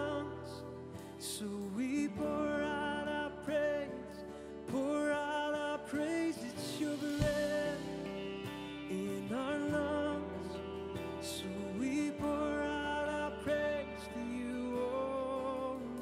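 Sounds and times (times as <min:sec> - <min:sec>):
instrumental accompaniment: 0:00.0 - 0:15.8
person singing worship song: 0:00.0 - 0:16.0.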